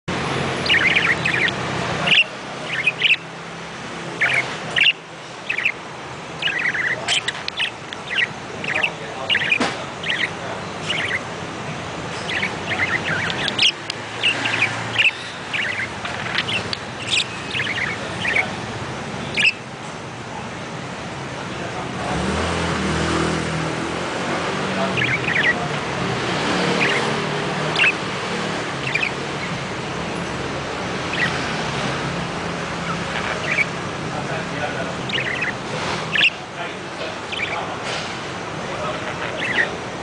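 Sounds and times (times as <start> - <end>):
budgerigars chattering: 0.1 - 20.2, 23.6 - 40.0.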